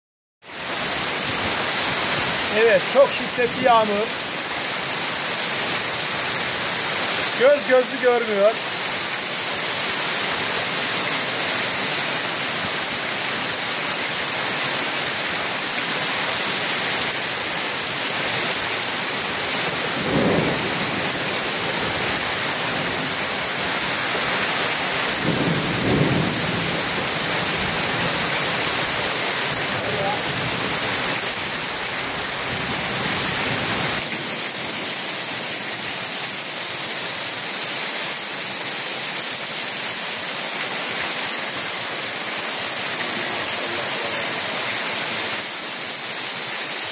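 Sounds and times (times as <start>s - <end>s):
heavy rain pouring: 0.4s - 46.9s.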